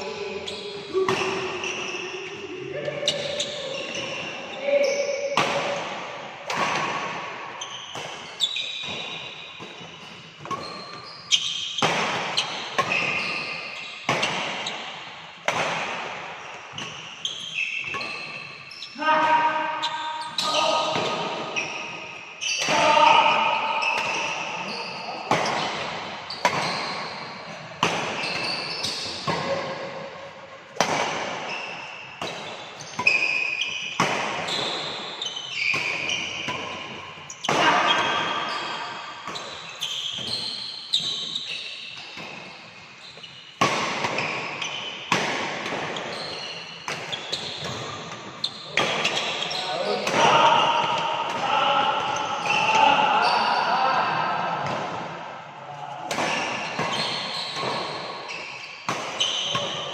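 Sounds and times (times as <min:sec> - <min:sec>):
racket hitting shuttlecock: 0:00.4 - 0:04.3, 0:05.3 - 0:53.0, 0:54.6 - 0:55.4, 0:56.0 - 0:59.9.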